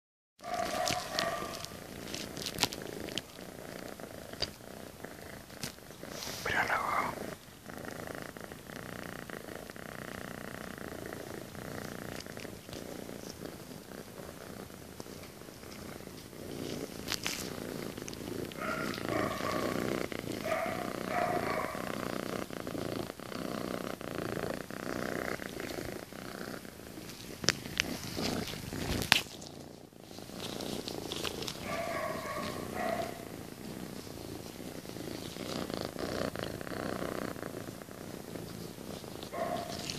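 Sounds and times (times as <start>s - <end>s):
cat purring: 0.4s - 39.9s.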